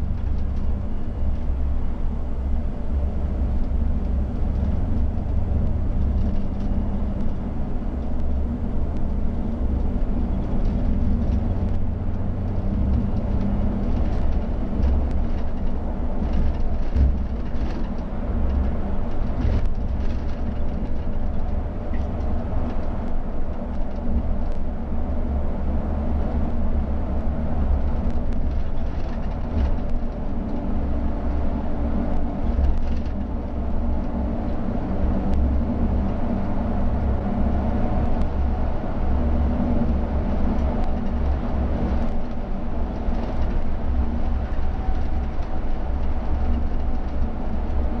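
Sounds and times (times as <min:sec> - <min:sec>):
diesel coach engine rumbling: 0:00.0 - 0:48.0.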